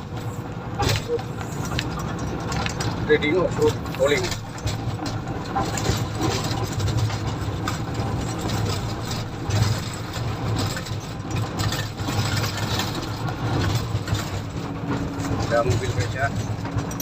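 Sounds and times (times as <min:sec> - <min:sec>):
diesel engine droning: 0:00.0 - 0:17.0
mechanical rumble: 0:00.0 - 0:17.0.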